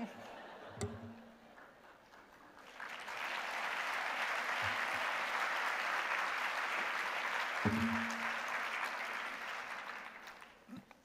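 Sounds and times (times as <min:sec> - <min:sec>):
crowd applause: 0:00.0 - 0:10.8.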